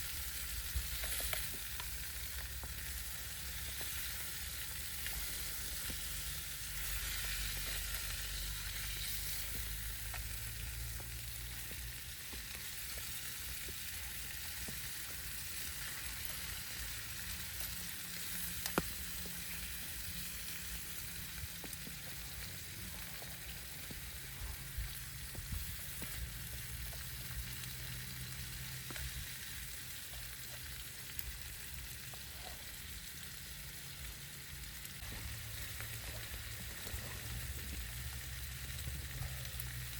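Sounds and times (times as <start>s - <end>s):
food sizzling in a pan: 0.0s - 39.9s
oil popping: 0.3s - 31.4s, 34.8s - 39.9s.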